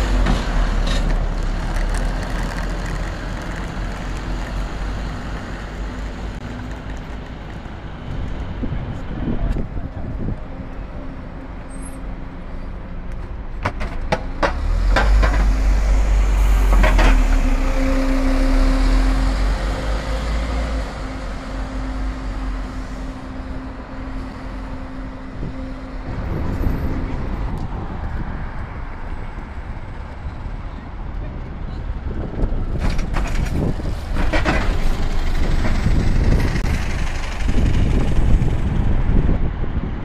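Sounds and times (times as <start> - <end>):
bus and car traffic: 0.0 - 40.0
bus engine rumbling: 0.0 - 40.0.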